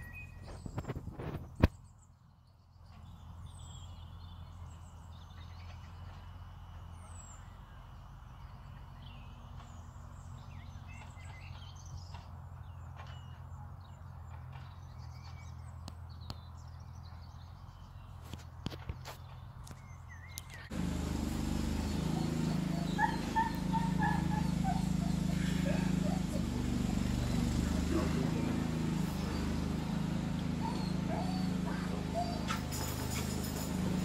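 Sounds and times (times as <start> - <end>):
birds chirping and whistling: 0.0 - 18.2, 19.1 - 34.0.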